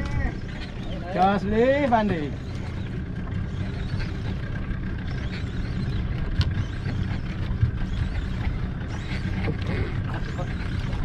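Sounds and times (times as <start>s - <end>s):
low rumble on a boat: 0.0s - 11.0s.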